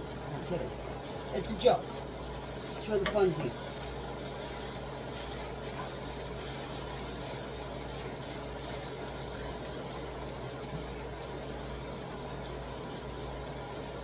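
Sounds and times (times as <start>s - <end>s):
low mechanical hum: 0.0s - 14.0s
spatula stirring cabbage in pan: 2.0s - 14.0s.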